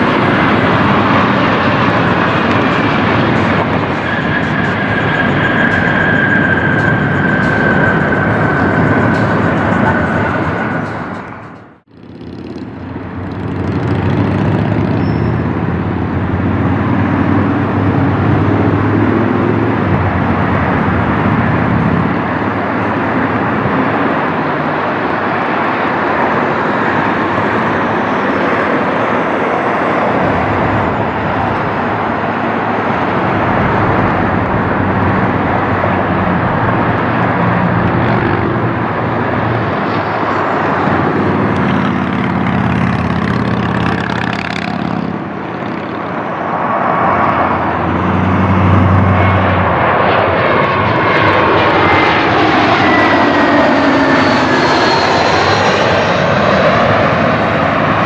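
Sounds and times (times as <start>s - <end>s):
jet airliner engines passing: 0.0s - 58.0s.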